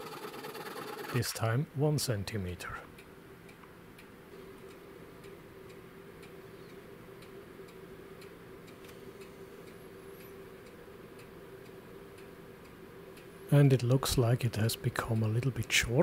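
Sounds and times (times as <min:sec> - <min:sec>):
faint steady hum: 0:00.0 - 0:16.0
pendulum clock ticking: 0:02.9 - 0:16.0.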